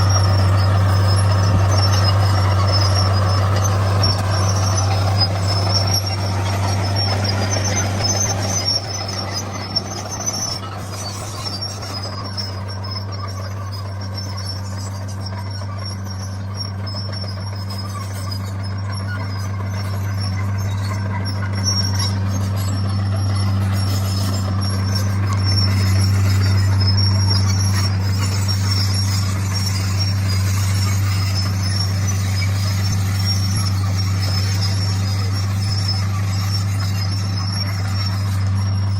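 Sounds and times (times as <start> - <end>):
bulldozer diesel engine drone: 0.0 - 38.9.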